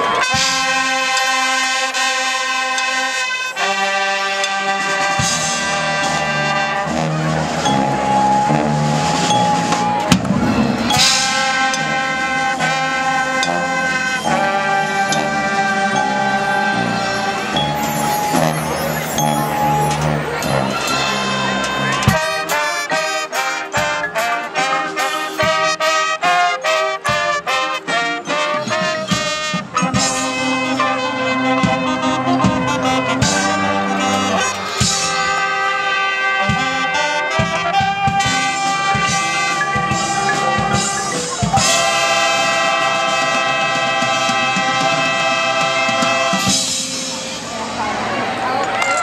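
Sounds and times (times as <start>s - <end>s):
marching band brass music: 0.0s - 49.0s.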